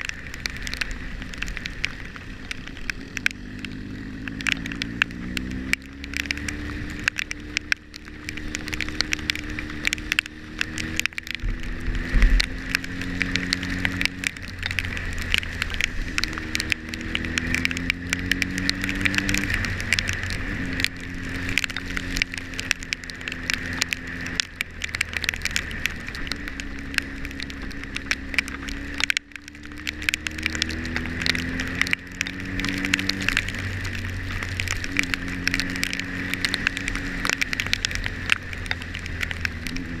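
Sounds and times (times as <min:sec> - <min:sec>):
motorcycle engine accelerating: 0:00.0 - 0:40.0
rain hitting camera: 0:00.0 - 0:40.0.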